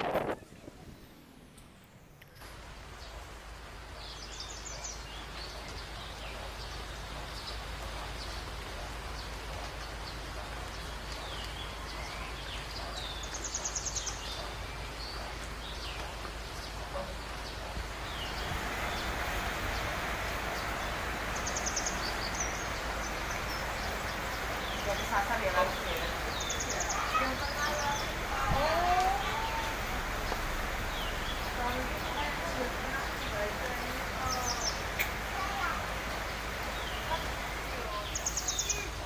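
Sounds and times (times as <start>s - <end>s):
small birds chirping: 0.0s - 39.0s
steady hiss: 0.0s - 39.0s.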